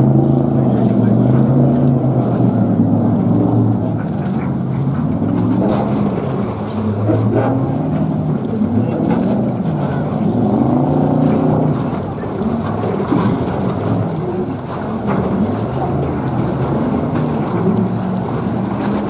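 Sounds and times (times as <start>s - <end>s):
racing boat engine: 0.0s - 19.0s.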